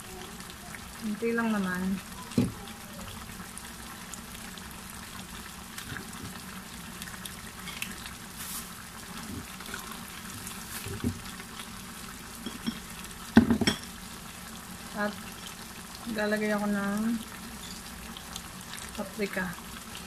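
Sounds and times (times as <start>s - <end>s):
stew bubbling in a pan: 0.0s - 20.0s.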